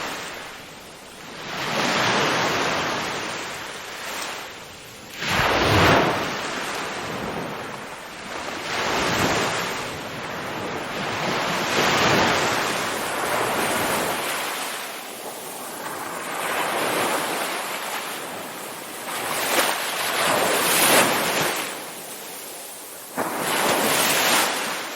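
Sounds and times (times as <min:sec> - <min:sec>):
waves breaking: 0:00.0 - 0:24.9.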